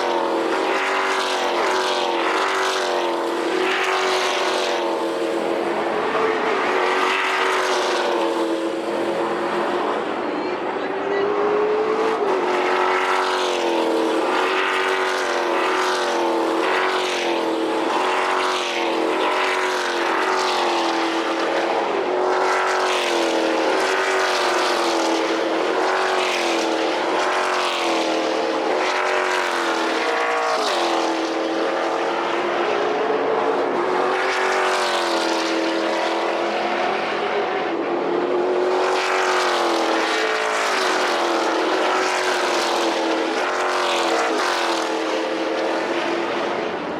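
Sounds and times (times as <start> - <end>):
race car engines: 0.0 - 46.9.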